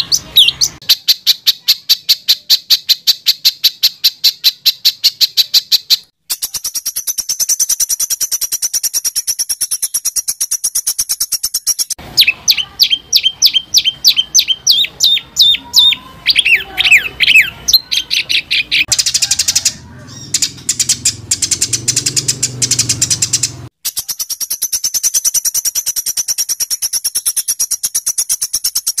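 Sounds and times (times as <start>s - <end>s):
songbird trilling: 0.0s - 29.0s.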